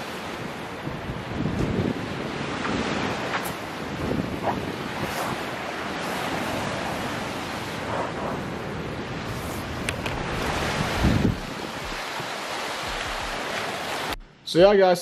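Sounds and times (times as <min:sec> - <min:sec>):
surf breaking on beach: 0:00.0 - 0:14.2
wind on microphone: 0:00.0 - 0:14.2.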